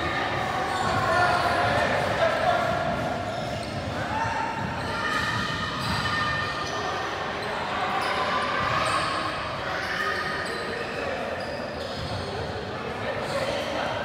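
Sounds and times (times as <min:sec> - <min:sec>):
echoing indistinct chatter: 0:00.0 - 0:14.0.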